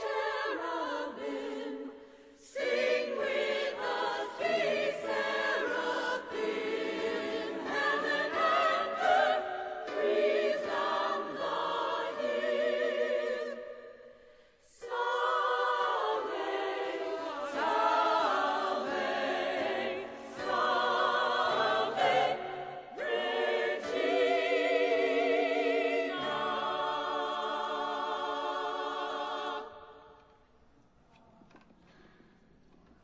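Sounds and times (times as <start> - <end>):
choir singing a sacred song: 0.0 - 30.5.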